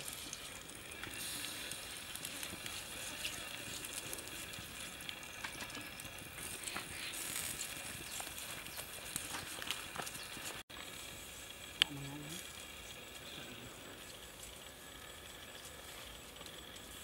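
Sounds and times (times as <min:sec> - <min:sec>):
fire crackling: 0:00.0 - 0:17.0
steaks sizzling on grill: 0:00.0 - 0:17.0.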